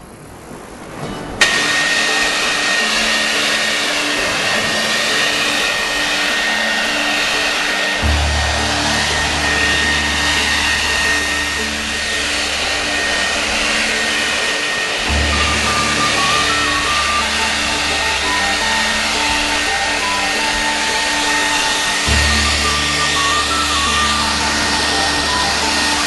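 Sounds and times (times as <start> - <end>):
electric leaf blower running: 1.4 - 26.0.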